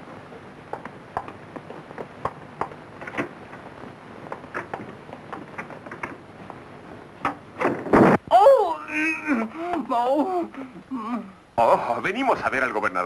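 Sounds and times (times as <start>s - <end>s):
old film soundtrack hiss: 0.0s - 13.0s.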